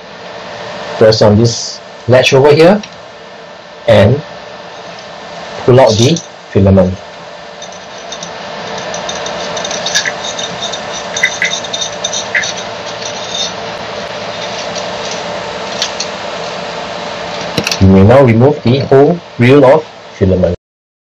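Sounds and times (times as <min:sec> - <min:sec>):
filament rustling hiss: 0:00.0 - 0:20.6.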